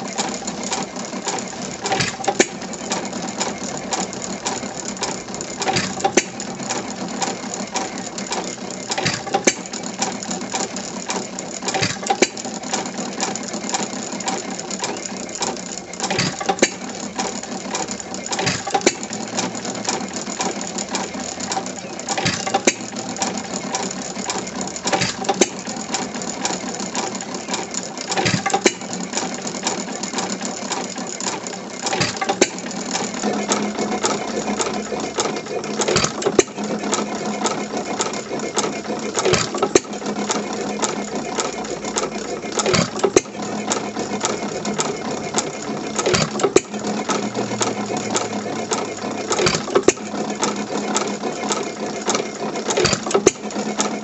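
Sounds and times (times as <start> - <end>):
stationary engine clattering: 0.0 - 54.0.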